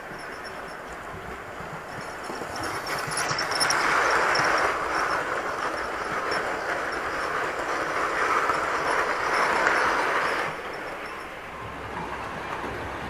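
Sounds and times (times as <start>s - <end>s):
model train wheels rumbling: 0.0s - 13.0s.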